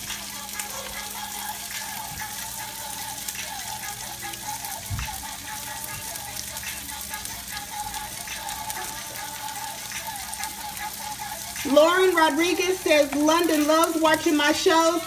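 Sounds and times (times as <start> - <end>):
cream sauce sizzling in a pan: 0.0 - 15.0.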